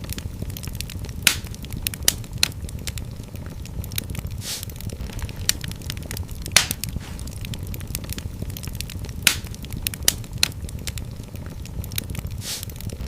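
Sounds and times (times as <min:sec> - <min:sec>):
fire pops and snaps: 0:00.0 - 0:13.0
low rumble of flames: 0:00.0 - 0:13.0.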